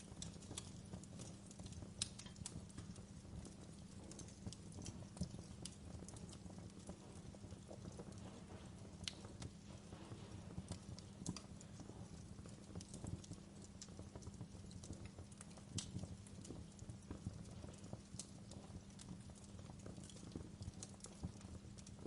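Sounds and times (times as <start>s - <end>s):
wood fire crackling in fireplace: 0.0s - 22.0s.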